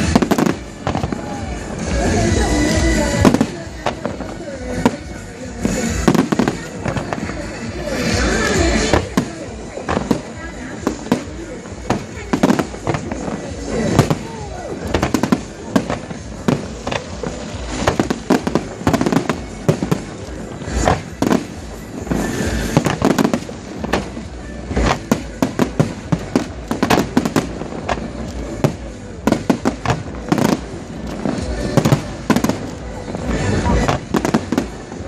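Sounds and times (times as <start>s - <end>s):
fireworks bursting: 0.0s - 35.0s
steady background din: 0.0s - 35.0s.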